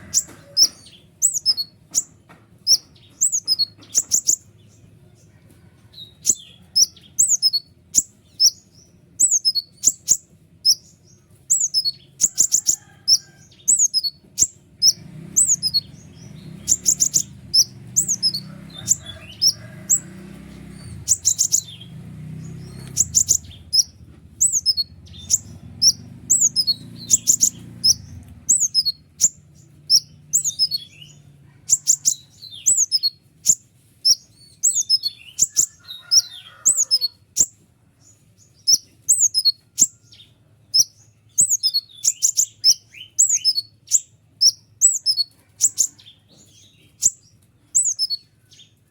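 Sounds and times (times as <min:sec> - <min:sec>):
songbird high sliding chirps: 0:00.0 - 0:02.1, 0:02.7 - 0:04.5, 0:09.2 - 0:10.9, 0:11.5 - 0:37.6, 0:38.6 - 0:40.0, 0:40.7 - 0:46.0, 0:46.9 - 0:48.2.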